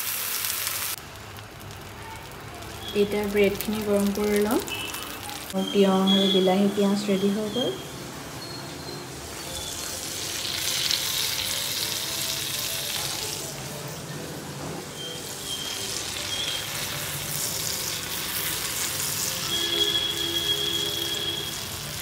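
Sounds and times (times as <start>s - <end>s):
food sizzling on a griddle: 0.0s - 14.1s, 14.9s - 22.0s.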